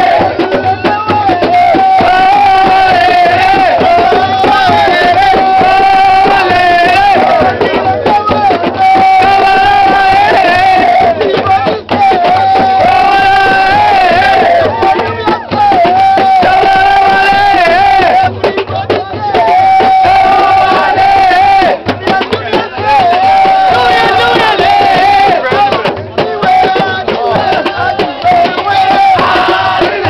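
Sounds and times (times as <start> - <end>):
drum accompaniment: 0.0 - 30.0
men singing together: 0.0 - 30.0.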